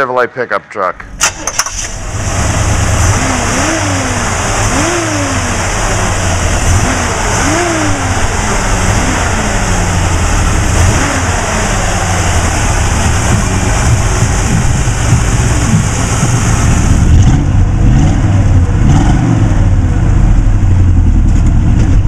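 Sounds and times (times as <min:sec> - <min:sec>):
car engine revving: 0:01.0 - 0:22.0.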